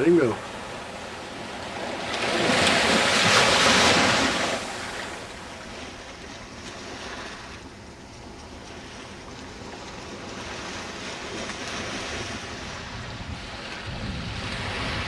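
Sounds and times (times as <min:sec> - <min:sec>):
wave breaking and washing up: 0:00.0 - 0:15.0.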